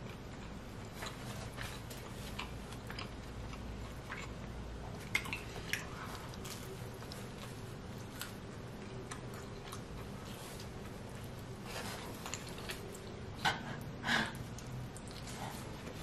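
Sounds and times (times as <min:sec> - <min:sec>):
person chewing pizza: 0:00.0 - 0:16.0.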